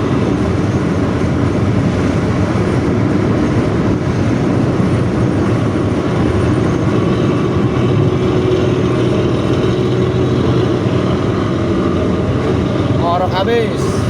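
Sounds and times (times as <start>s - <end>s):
diesel bus engine growling: 0.0s - 14.0s.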